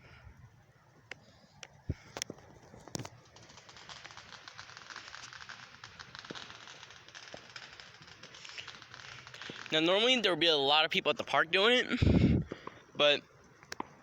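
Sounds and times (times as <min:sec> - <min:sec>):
firework crackling: 0:00.0 - 0:14.0
distant firework pops: 0:01.0 - 0:11.4, 0:12.1 - 0:14.0.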